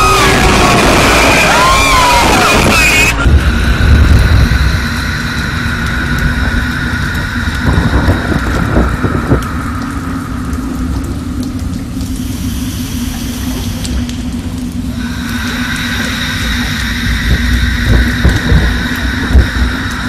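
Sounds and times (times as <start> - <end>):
faint steady whine: 0.0 - 20.0
low steady rumble: 2.6 - 20.0.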